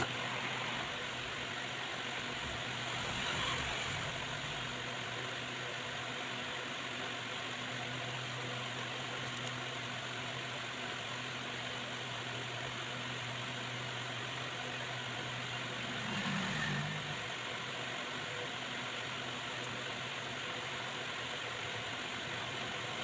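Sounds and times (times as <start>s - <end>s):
constant hiss: 0.0s - 23.0s.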